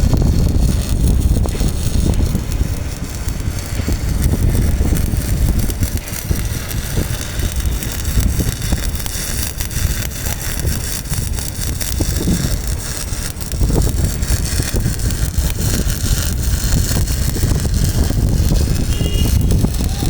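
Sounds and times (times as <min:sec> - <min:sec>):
arc welding crackling: 0:00.0 - 0:20.0
wind rumble on microphone: 0:00.0 - 0:20.0.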